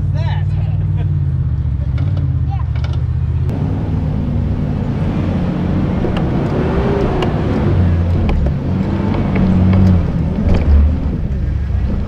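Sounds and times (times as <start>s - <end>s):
engine running under load: 0.7s - 12.0s.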